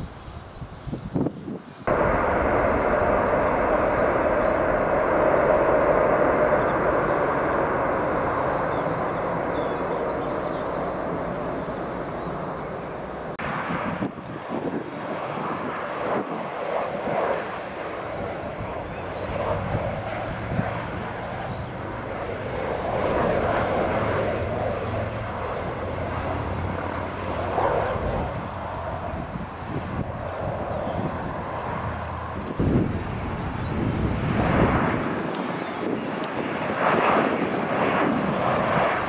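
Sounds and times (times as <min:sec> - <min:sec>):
jet engines roaring: 0:01.4 - 0:39.0.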